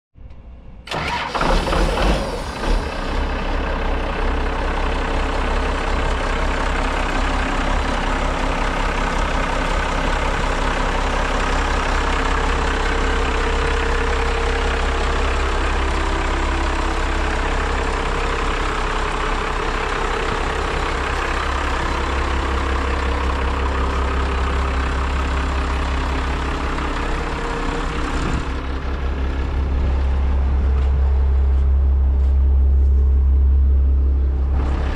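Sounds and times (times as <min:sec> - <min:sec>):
wood chipper diesel engine rumbling: 0:00.8 - 0:34.9.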